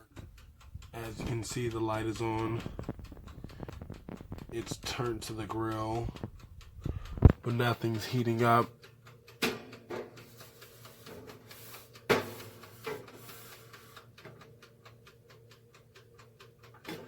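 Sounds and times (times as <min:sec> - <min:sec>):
timer dial ticking: 0:00.0 - 0:17.0.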